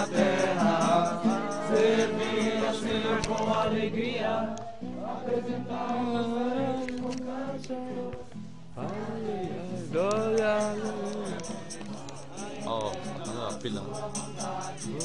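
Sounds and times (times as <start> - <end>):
young voices singing a hymn: 0.0 - 15.0.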